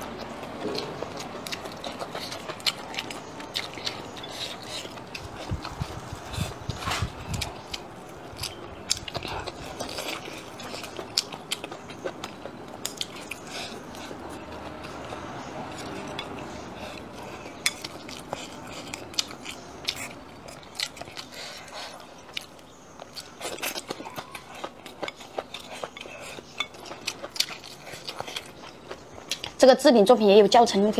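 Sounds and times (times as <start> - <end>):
close chewing with wet mouth clicks: 0.0 - 29.8.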